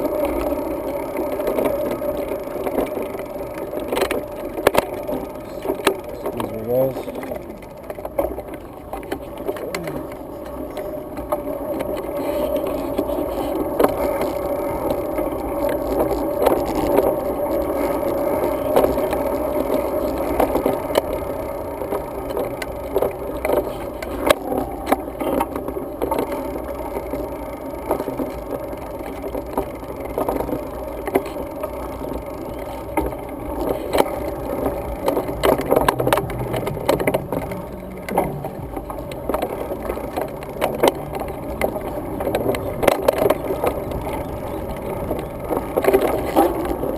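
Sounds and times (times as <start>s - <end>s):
bike rattling and knocking: 0.0s - 46.9s
road and wind rumble: 0.0s - 46.9s.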